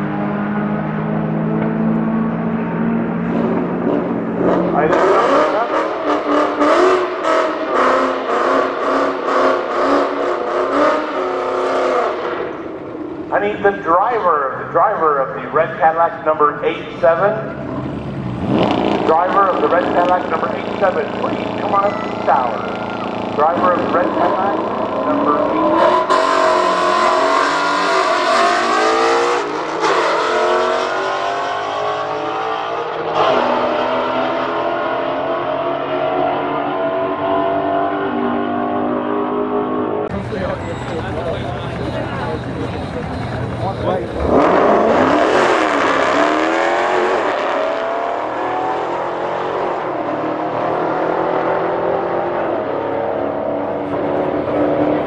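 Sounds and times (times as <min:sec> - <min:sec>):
cars accelerating hard: 0:00.0 - 0:55.0.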